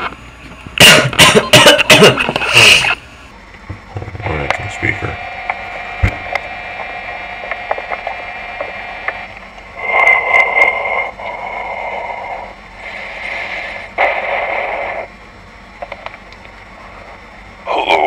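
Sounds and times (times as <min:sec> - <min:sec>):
steady whine: 0:00.0 - 0:18.0
static: 0:00.8 - 0:03.1, 0:04.0 - 0:18.0.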